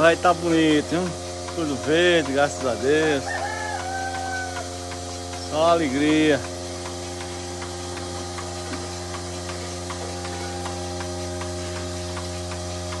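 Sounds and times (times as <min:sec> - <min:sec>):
faint regular ticks: 0:00.0 - 0:13.0
steady hum: 0:00.0 - 0:13.0.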